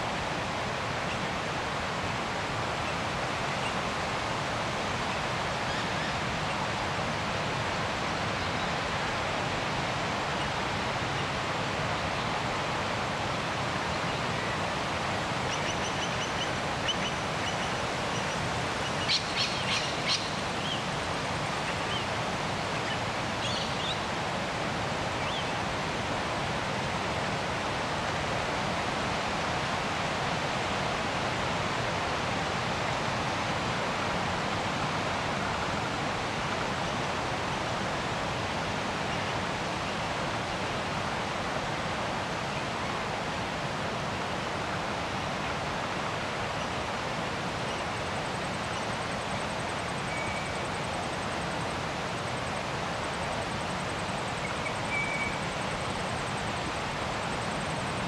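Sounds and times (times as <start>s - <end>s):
rushing outdoor ambience: 0.0s - 58.0s.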